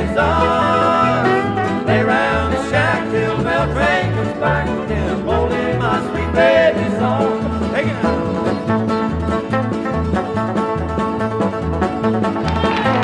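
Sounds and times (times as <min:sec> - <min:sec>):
bouncing bass line: 0:00.0 - 0:13.0
country band playing: 0:00.0 - 0:13.0
sliding lead guitar lines: 0:00.0 - 0:13.0.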